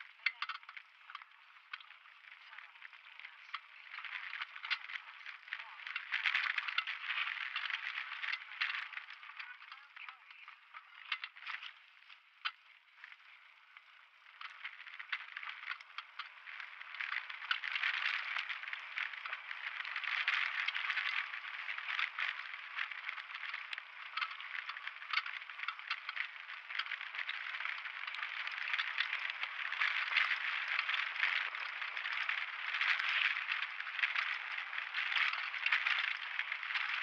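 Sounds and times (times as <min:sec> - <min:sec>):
mountain bike rattling on trail: 0:00.0 - 0:37.0.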